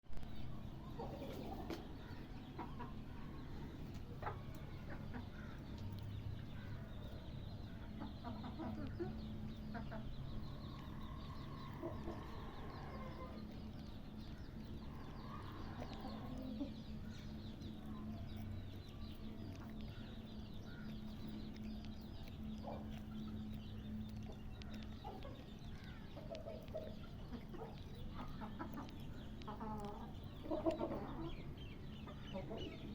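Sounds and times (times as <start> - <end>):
low hum: 0.1 - 32.9
birds calling: 0.2 - 32.9.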